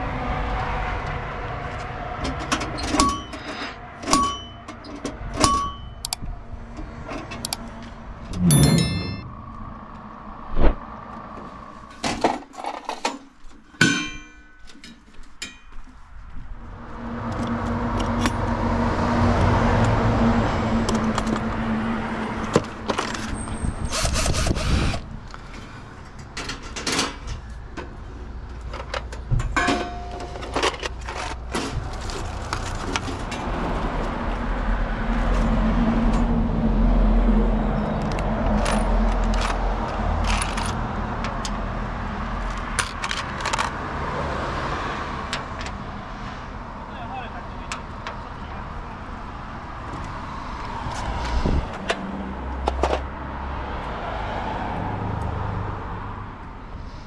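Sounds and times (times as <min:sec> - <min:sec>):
passing road traffic: 0:00.0 - 0:13.6, 0:15.9 - 0:57.0.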